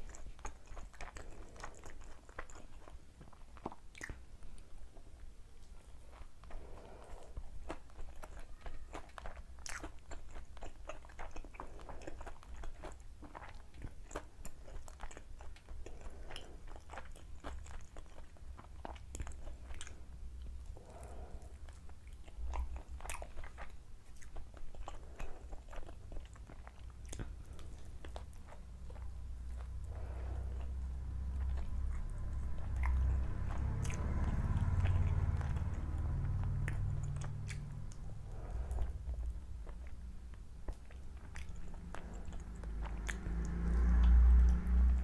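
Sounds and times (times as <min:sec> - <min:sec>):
wet chewing: 0:00.0 - 0:45.0.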